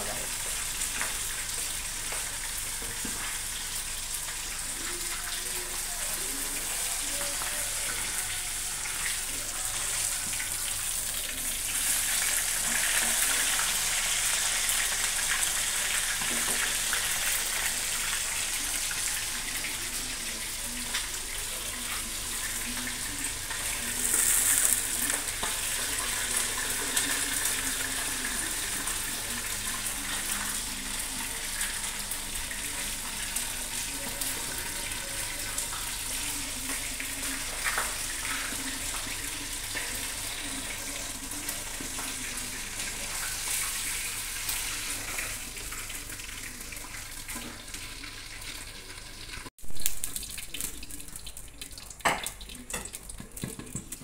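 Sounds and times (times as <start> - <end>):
oil sizzling in a wok: 0.0 - 54.0.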